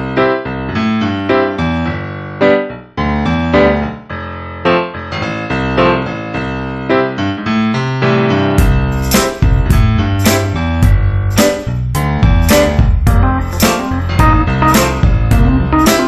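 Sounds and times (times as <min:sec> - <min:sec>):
bouncy piano music: 0:00.0 - 0:16.0.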